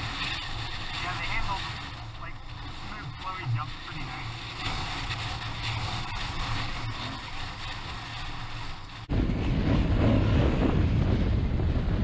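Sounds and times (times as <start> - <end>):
motorcycle riding: 0.0 - 12.0
wind buffeting microphone: 0.0 - 12.0.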